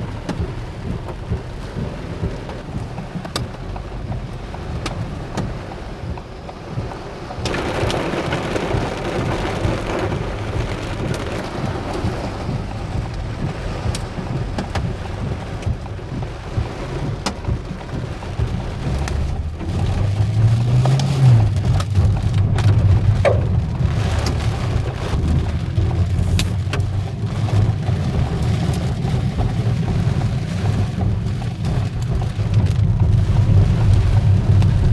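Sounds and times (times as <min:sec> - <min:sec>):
deep low rumble: 0:00.0 - 0:34.9
hailstones hitting: 0:00.0 - 0:34.9
heavy rain: 0:00.0 - 0:34.9.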